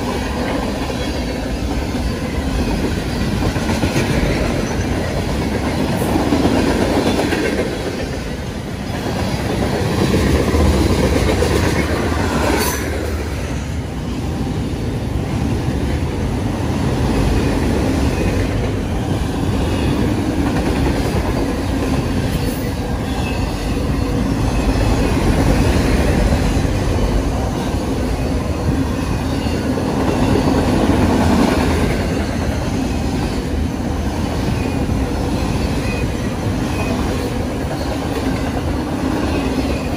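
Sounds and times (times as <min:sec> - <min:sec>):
train wheels clattering over rails: 0:00.0 - 0:14.4, 0:15.1 - 0:39.9.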